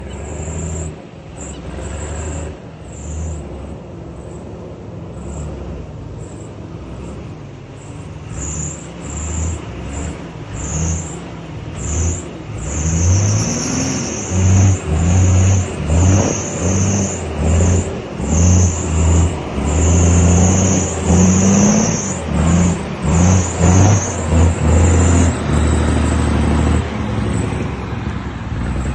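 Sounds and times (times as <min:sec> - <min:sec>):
truck diesel engines revving: 0:00.0 - 0:28.9.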